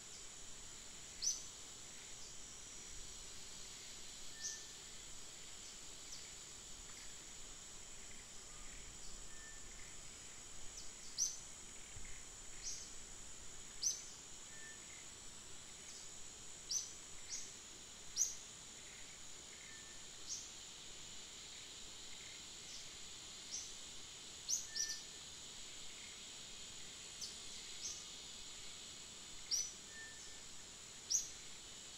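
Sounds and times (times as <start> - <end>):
high insect drone: 0.0 - 31.9.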